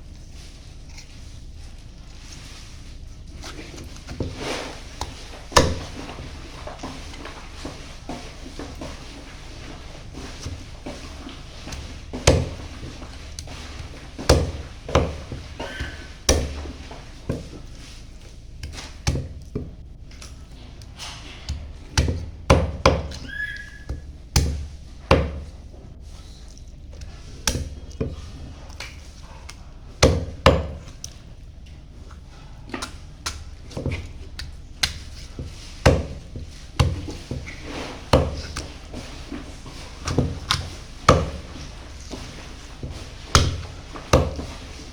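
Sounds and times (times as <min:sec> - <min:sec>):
cleaver chopping chicken: 0:03.4 - 0:19.7, 0:21.4 - 0:31.2, 0:32.3 - 0:44.9.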